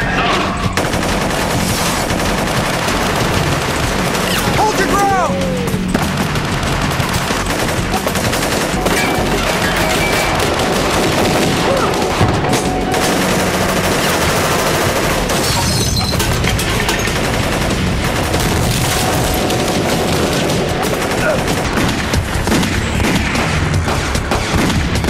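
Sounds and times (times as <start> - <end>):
rapid gunfire: 0.6 - 25.0.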